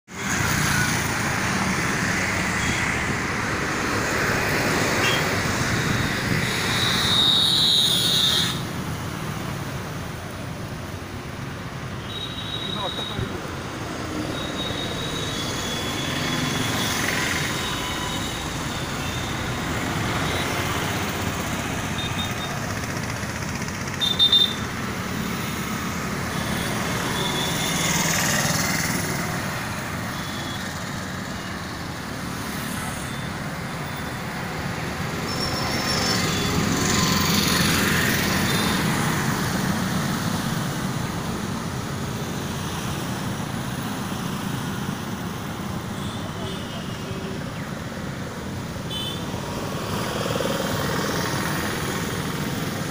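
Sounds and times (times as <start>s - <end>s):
passing motorcycles and cars: 0.1s - 52.9s.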